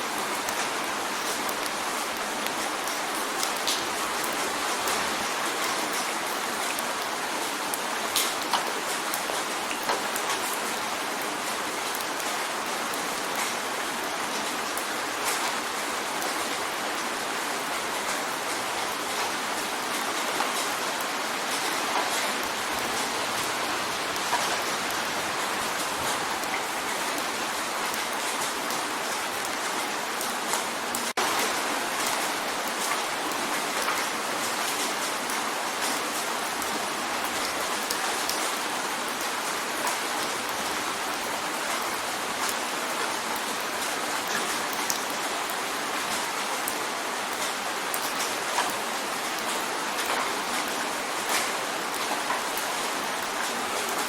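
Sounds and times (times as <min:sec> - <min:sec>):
rain drumming on a window: 0:00.0 - 0:54.0.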